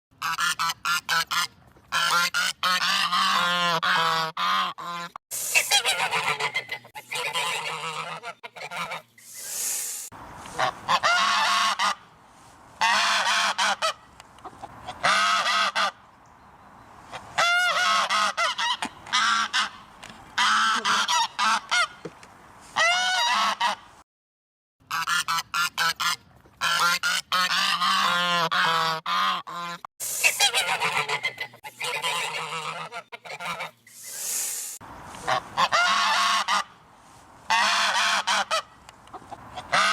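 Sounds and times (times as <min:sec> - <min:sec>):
geese honking: 0:00.2 - 0:09.2, 0:10.4 - 0:12.2, 0:12.8 - 0:16.0, 0:17.1 - 0:22.0, 0:22.8 - 0:23.9, 0:24.9 - 0:33.8, 0:35.1 - 0:36.8, 0:37.5 - 0:39.9.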